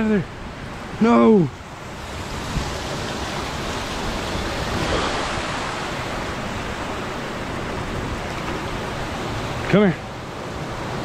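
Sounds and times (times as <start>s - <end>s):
water at lake edge: 0.0s - 11.0s
wind: 0.0s - 11.0s.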